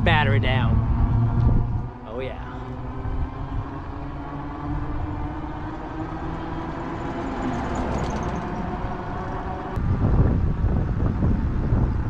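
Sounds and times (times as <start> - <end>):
tyre and road rumble: 0.0 - 12.0
wind buffeting microphone: 0.0 - 12.0
electric motor whine: 0.4 - 11.8.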